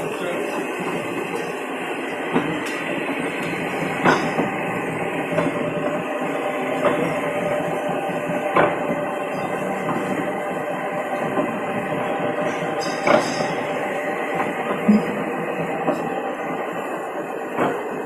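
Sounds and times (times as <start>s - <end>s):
rolling machine drone: 0.0s - 18.0s.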